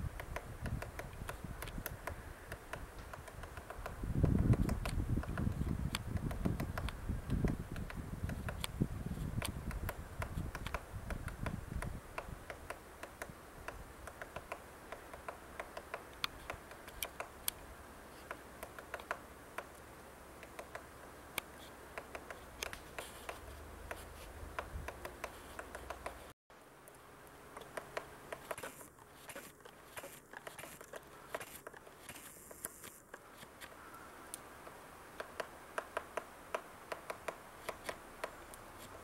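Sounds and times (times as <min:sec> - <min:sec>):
woodpecker tapping on wood: 0:00.1 - 0:17.6, 0:18.2 - 0:19.8, 0:20.4 - 0:26.3, 0:27.5 - 0:33.0, 0:34.6 - 0:39.0.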